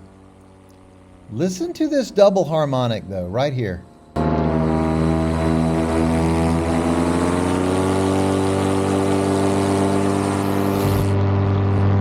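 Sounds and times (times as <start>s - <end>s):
paramotor engine droning: 0.0s - 12.0s.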